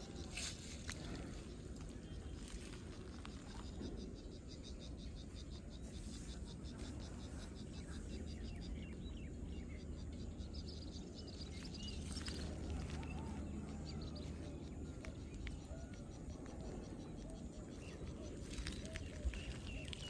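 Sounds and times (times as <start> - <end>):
birds chirping: 0.0 - 20.0
low background noise: 0.0 - 20.0.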